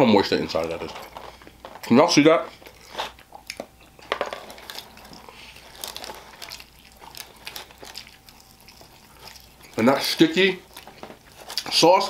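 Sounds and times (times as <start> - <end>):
wet chewing and smacking: 0.3 - 12.0.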